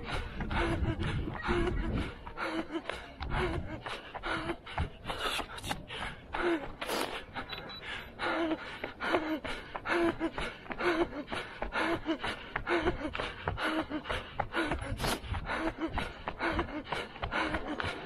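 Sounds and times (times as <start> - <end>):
runner breathing hard: 0.0 - 18.0.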